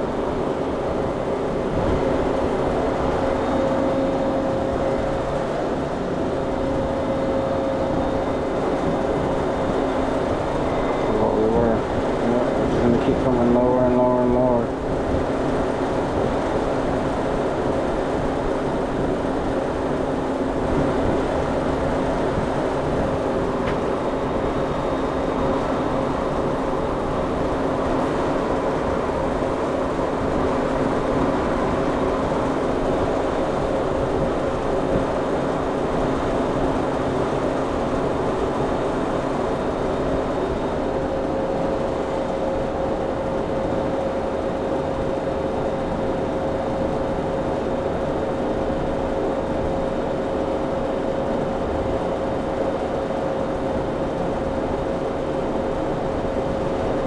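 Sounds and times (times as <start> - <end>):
refrigeration compressor humming: 0.0 - 57.0.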